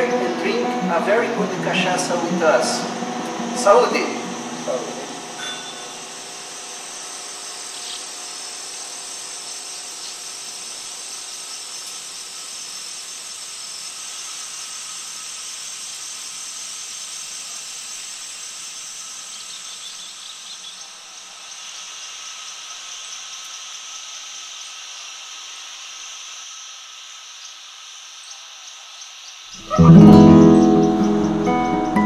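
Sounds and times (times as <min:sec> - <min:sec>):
insect chorus buzzing: 0:00.0 - 0:32.0.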